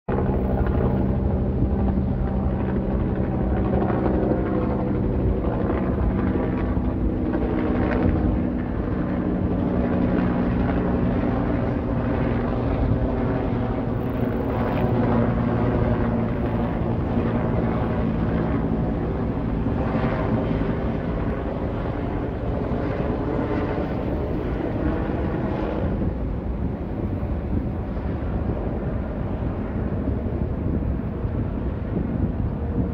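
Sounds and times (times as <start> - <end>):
helicopter rotor and engine drone: 0.1 - 32.9.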